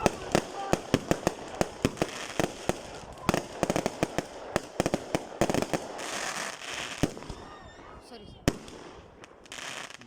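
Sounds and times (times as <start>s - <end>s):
fireworks bangs and pops: 0.0s - 10.0s
fireworks hissing crackle: 0.0s - 10.0s.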